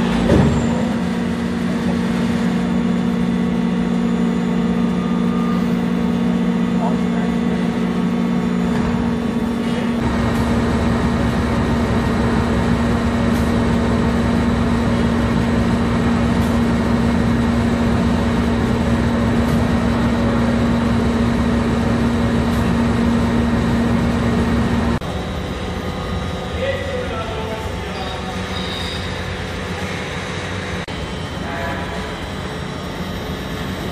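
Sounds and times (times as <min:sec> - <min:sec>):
friction welding machine hum: 0:00.0 - 0:33.9.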